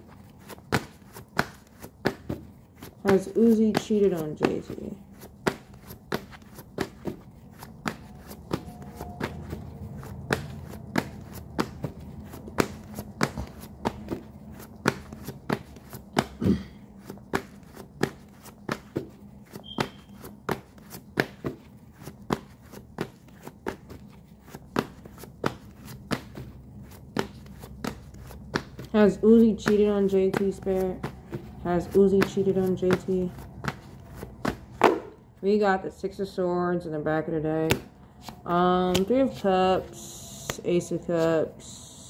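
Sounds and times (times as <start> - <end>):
cards being shuffled: 0.0 - 35.2, 37.7 - 41.4.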